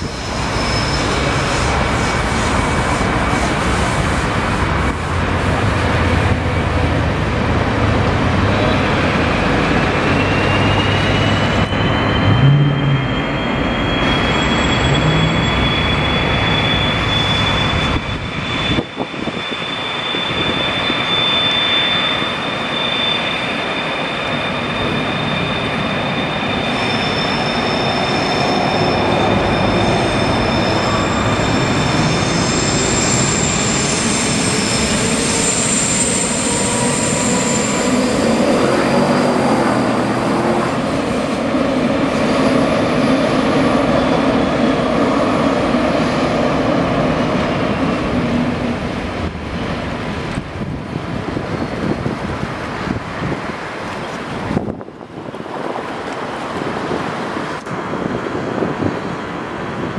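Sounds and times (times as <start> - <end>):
train wheels squealing on track: 0.0 - 7.0, 8.0 - 56.3
train rumbling: 0.0 - 59.9.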